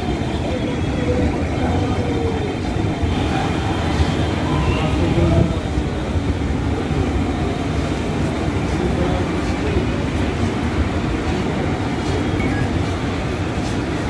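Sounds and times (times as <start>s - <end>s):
passenger train rumbling past: 0.0s - 14.0s.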